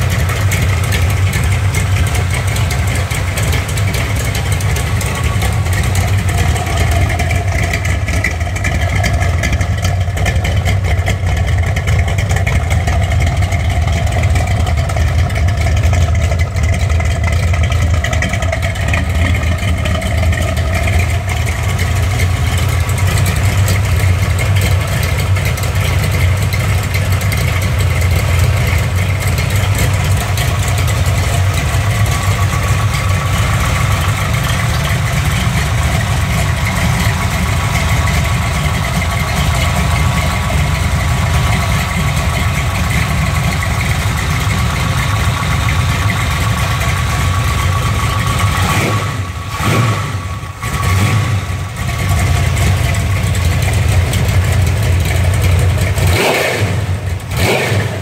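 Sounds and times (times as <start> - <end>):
engine idling through open headers: 0.0 - 58.0.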